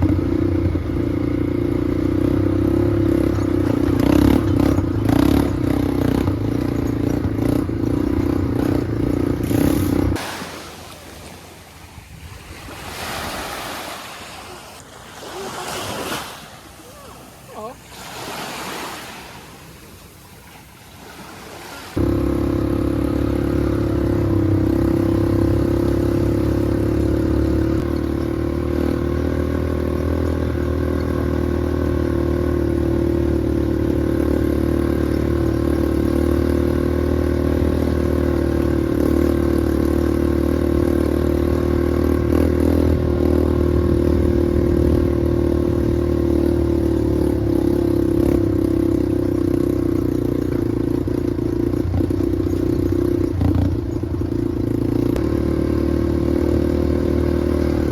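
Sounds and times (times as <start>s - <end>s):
off-road vehicle engine running: 0.0s - 11.7s, 22.0s - 57.9s.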